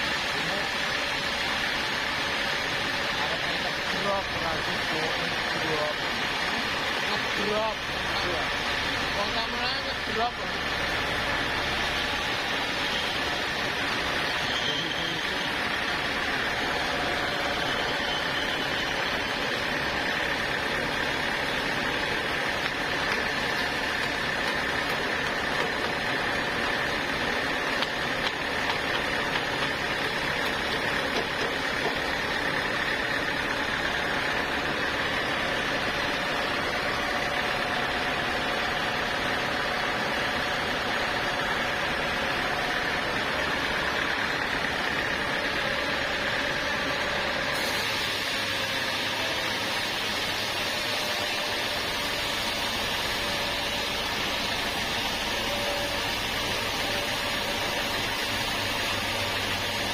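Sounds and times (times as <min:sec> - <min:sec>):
sawmill saw humming and whining: 0:00.0 - 0:59.9.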